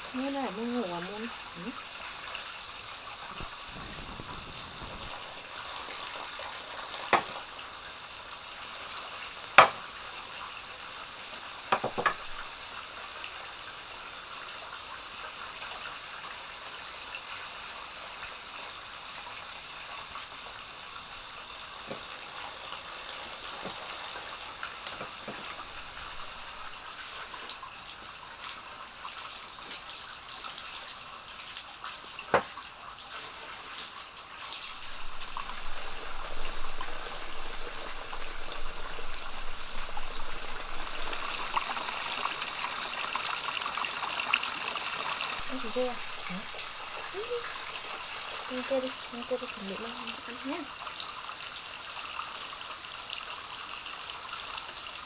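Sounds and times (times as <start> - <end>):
running water hiss: 0.0 - 55.0.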